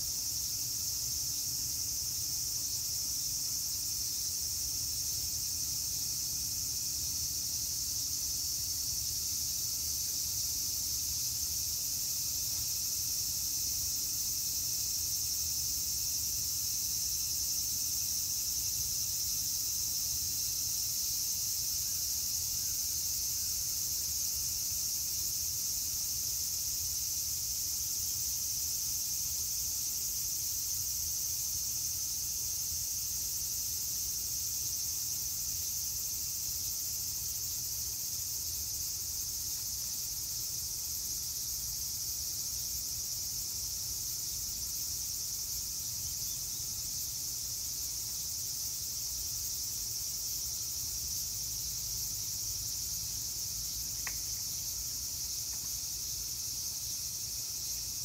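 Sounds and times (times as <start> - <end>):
cicadas singing: 0.0 - 58.0.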